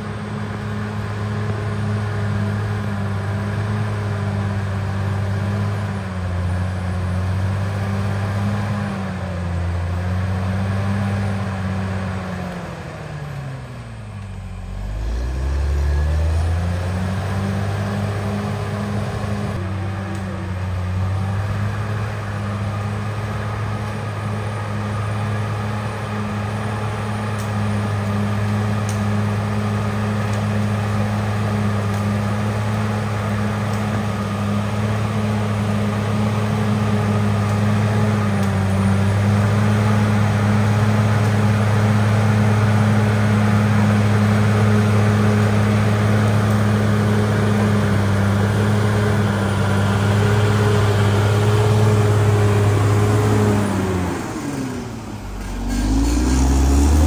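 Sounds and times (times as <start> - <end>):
diesel engine droning: 0.0 - 57.0
dozer pushing dirt: 0.0 - 57.0.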